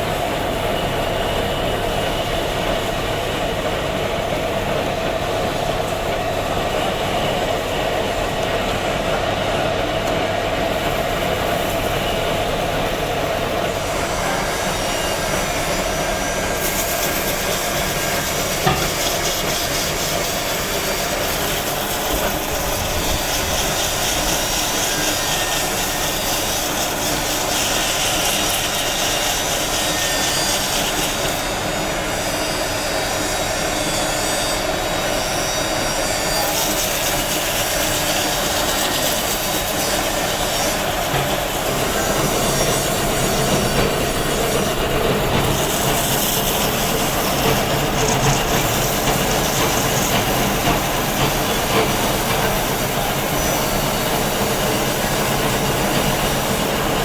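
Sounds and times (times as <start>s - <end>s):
power tool working stone: 0.0s - 57.0s.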